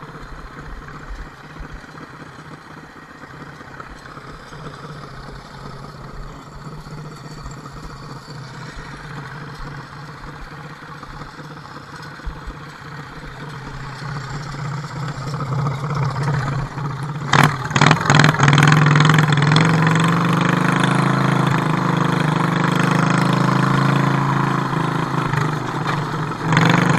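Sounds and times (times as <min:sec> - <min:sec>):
garden tractor engine: 0:00.0 - 0:26.9.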